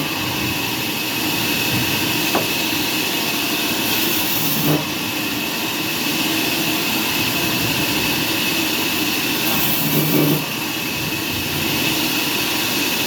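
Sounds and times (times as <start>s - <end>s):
sawmill machinery whining: 0.0s - 13.0s.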